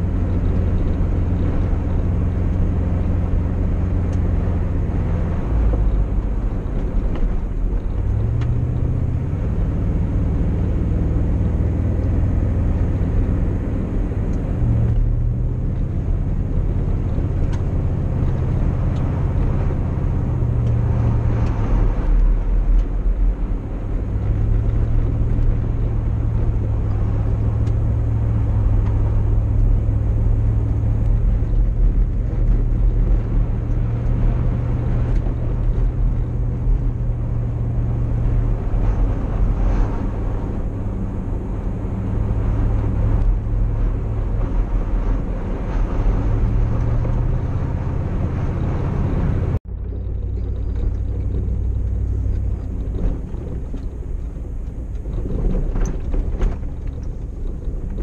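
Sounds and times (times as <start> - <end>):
truck engine and tyre rumble: 0.0 - 58.0.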